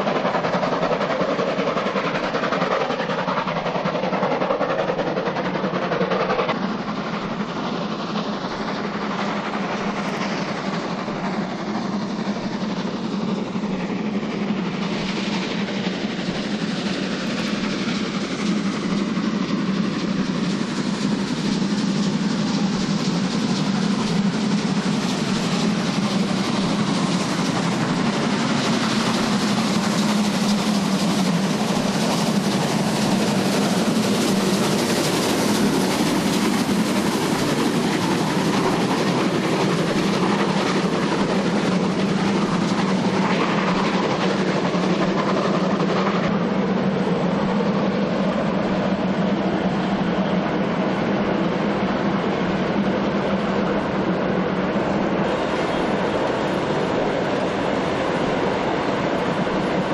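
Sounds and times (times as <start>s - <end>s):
steam locomotive exhaust: 0.0s - 59.9s
train wagons clattering over rails: 0.0s - 59.9s.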